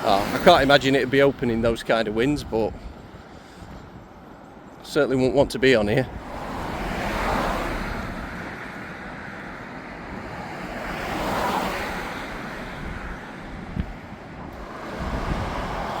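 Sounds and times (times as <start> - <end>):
wind on microphone: 0.0 - 4.5, 5.3 - 16.0
traffic tyre noise: 0.0 - 16.0.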